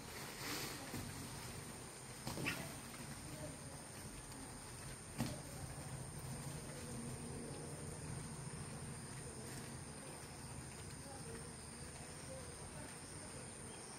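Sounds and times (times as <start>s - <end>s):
crickets droning: 0.0s - 13.9s
faint low hum: 0.0s - 13.9s.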